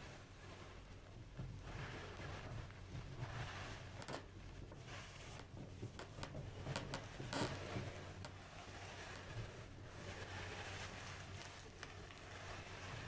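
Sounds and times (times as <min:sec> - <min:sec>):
hands rubbing skin and fabric: 0:01.6 - 0:13.0.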